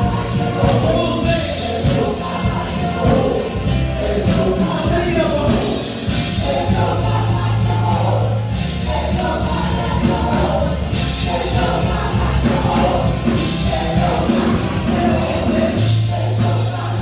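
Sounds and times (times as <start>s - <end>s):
gospel choir with band: 0.0s - 17.0s.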